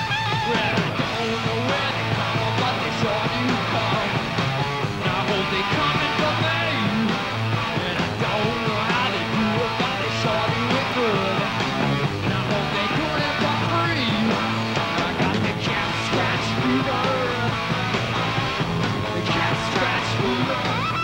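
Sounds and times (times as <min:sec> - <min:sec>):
bass: 0:00.0 - 0:21.0
drums: 0:00.0 - 0:21.0
electric guitar: 0:00.0 - 0:21.0
man singing: 0:00.3 - 0:18.3, 0:19.0 - 0:21.0.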